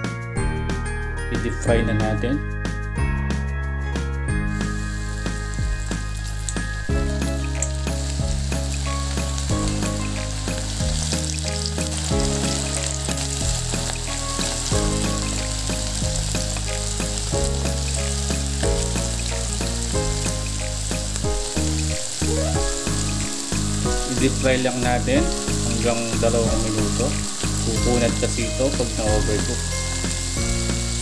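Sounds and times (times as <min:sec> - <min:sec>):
background music with low notes: 0:00.0 - 0:31.0
squid sizzling in hot oil: 0:04.5 - 0:31.0.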